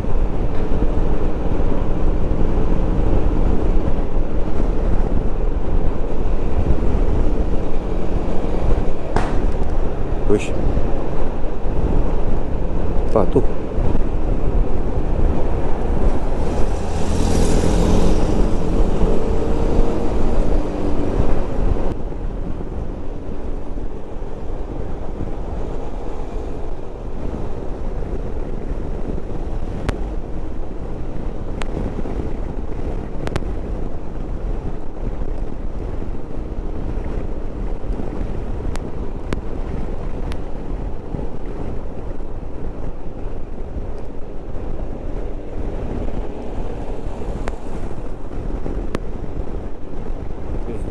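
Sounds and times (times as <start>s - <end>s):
wind rushing past helmet: 0.0s - 50.9s.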